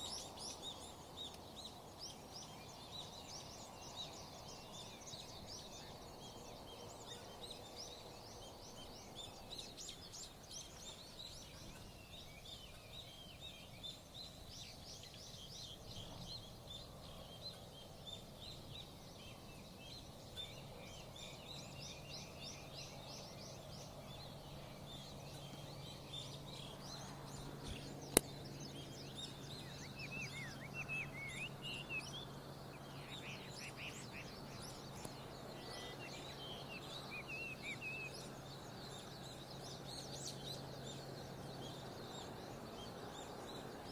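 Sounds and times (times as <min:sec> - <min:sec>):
birds chirping and twittering: 0:00.0 - 0:43.9.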